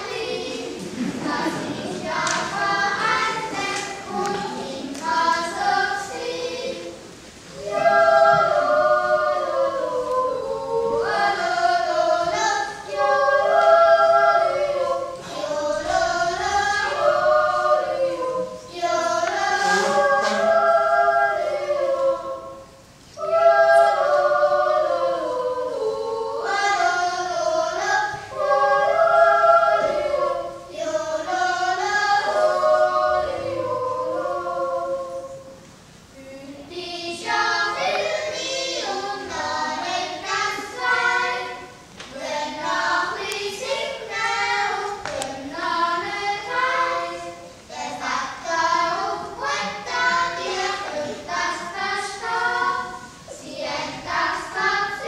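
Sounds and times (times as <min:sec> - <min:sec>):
youth choir singing a cappella: 0:00.0 - 0:55.0.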